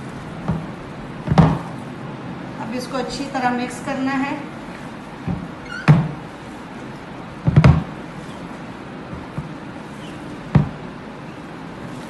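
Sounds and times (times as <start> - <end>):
hand kneading soft mixture: 0.0 - 12.0.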